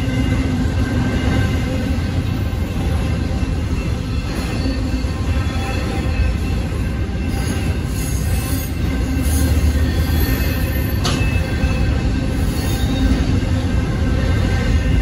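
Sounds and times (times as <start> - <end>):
faint high wheel squeal: 0.0 - 15.0.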